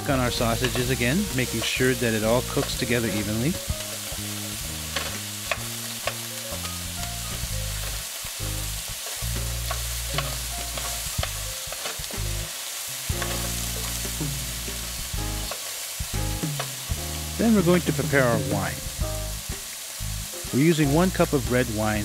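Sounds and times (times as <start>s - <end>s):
meat sizzling in a frying pan: 0.0s - 22.0s.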